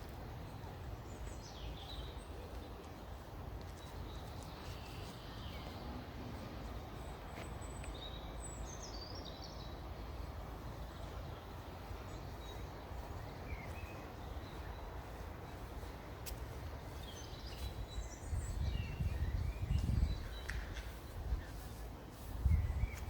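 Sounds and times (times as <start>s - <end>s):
small birds singing: 0.0s - 23.0s.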